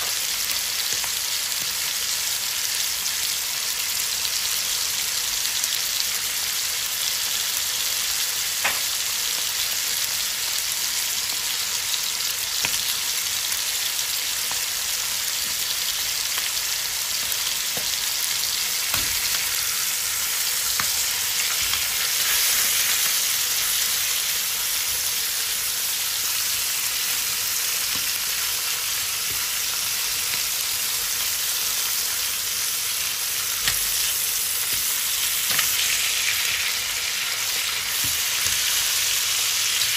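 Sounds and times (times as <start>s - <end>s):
chicken sizzling in oil: 0.0s - 39.9s.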